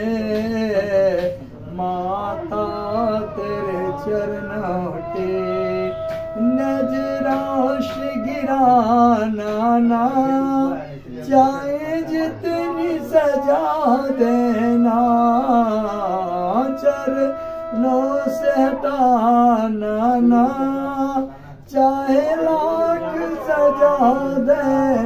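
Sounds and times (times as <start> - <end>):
man singing slow song: 0.0 - 25.0.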